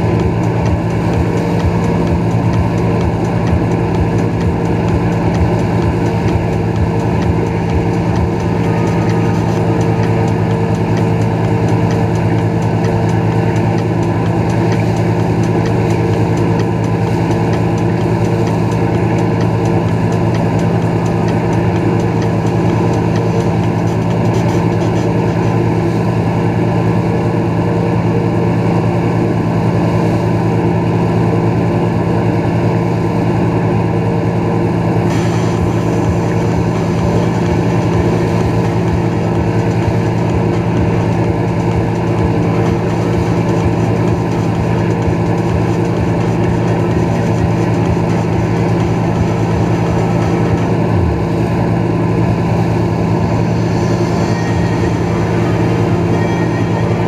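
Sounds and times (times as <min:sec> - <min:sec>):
boat engine droning: 0:00.0 - 0:57.0
churning wake rushing: 0:00.0 - 0:57.0.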